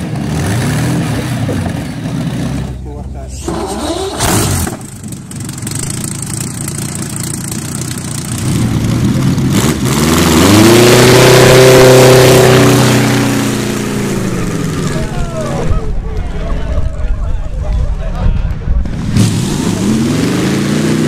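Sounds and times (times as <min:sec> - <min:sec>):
car engine revving: 0:00.0 - 0:15.5, 0:18.8 - 0:21.0.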